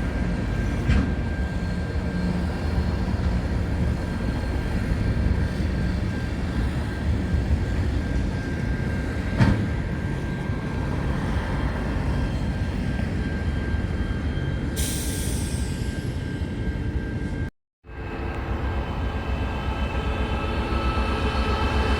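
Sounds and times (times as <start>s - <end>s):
train rumbling: 0.0s - 14.8s, 15.4s - 21.9s.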